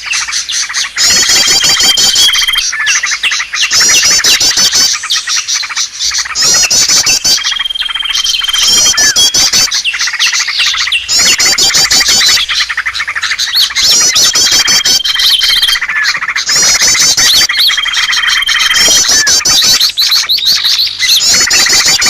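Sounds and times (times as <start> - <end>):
many small birds twittering: 0.0 - 22.0
rapid high sweeping bird notes: 0.0 - 22.0.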